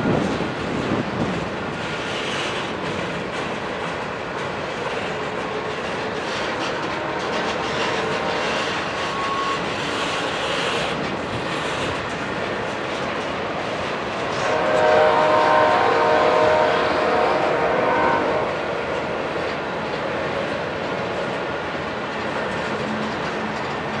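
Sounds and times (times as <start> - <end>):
freight train passing: 0.0 - 24.0.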